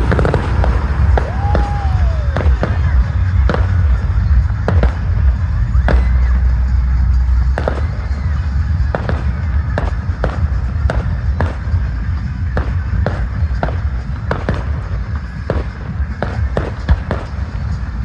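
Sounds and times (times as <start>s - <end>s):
fireworks bangs: 0.0s - 18.0s
low rumble: 0.0s - 18.0s.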